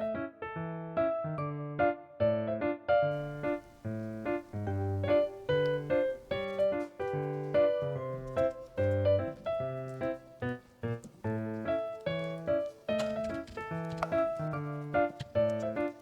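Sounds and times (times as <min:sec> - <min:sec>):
bouncy piano tune with bass: 0:00.0 - 0:16.0.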